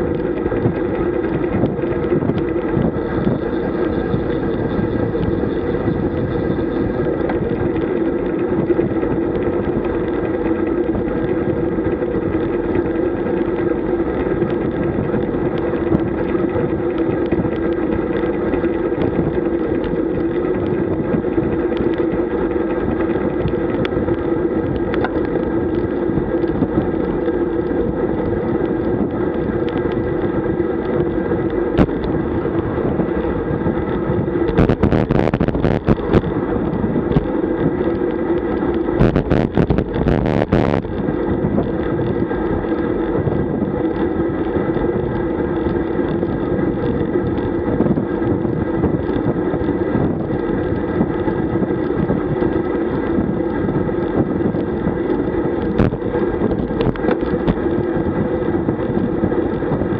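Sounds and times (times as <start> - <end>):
bicycle tyre and road noise: 0.0 - 59.9
wind over microphone: 0.0 - 59.9.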